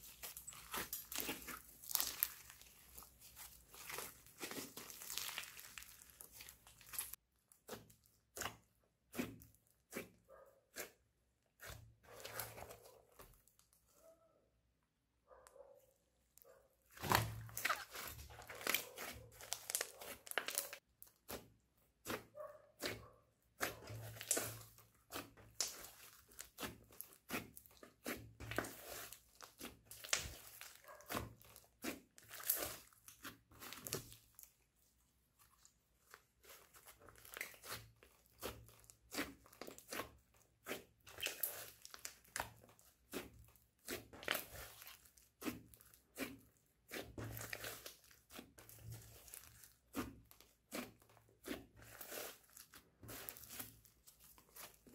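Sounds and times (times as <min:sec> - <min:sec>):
slime crackling and popping: 0:00.0 - 0:10.1, 0:16.9 - 0:23.0, 0:23.6 - 0:34.6, 0:35.5 - 0:54.9.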